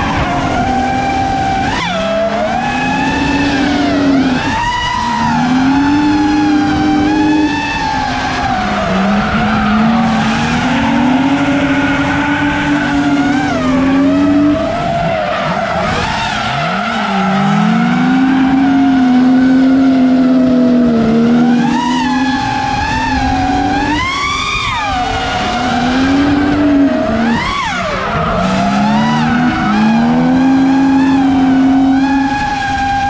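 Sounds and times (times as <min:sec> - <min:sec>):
car engines at high revs: 0:00.0 - 0:33.0.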